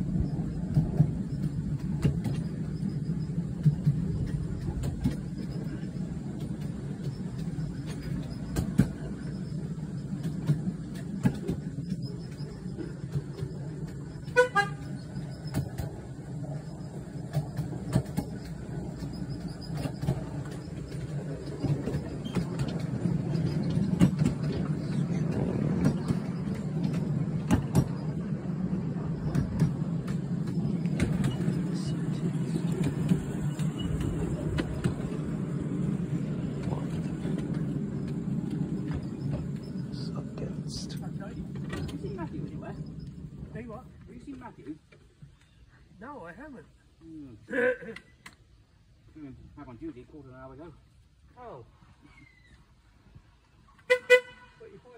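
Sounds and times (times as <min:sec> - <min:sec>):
clicks and clanks over rail joints: 0:00.0 - 0:47.0
train wheels rumbling on rails: 0:00.0 - 0:47.5.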